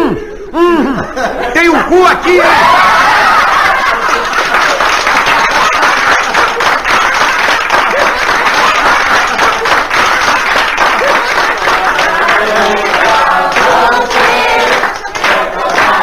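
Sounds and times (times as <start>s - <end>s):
audience applauding: 2.5s - 16.0s.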